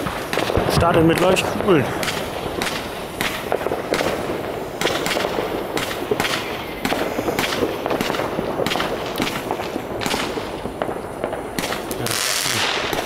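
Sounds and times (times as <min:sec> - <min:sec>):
firework launch pops: 0:00.0 - 0:13.0
steady hiss: 0:00.0 - 0:13.0.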